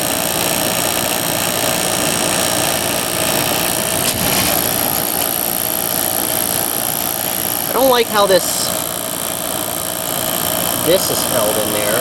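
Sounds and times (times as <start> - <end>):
air conditioner fan blowing: 0.0 - 12.0
compressor running with angry noises: 0.0 - 12.0.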